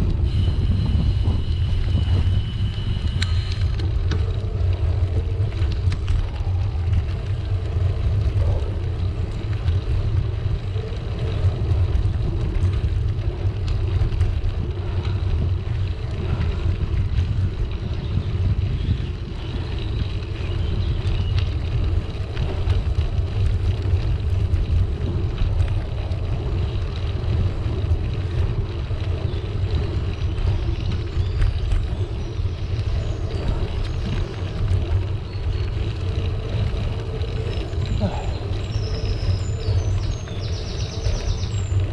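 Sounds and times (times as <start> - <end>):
bicycle tyres rolling on tarmac: 0.0 - 41.9
wind buffeting microphone: 0.0 - 41.9.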